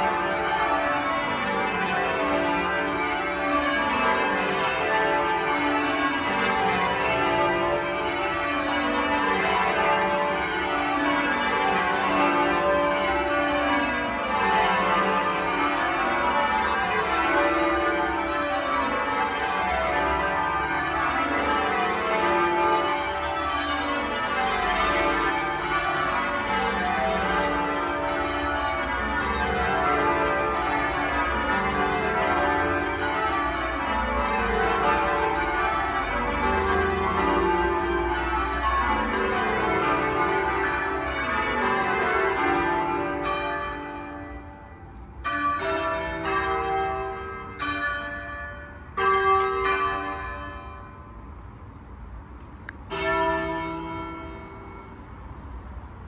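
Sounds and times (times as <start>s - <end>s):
church bells change ringing: 0.0s - 56.0s.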